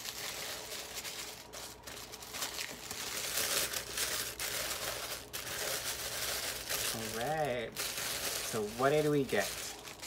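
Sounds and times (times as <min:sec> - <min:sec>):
tissue paper crinkling: 0:00.0 - 0:10.0.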